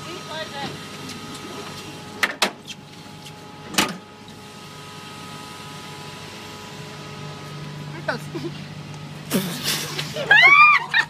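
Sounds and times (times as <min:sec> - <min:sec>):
ride machinery hum: 0:00.0 - 0:11.0.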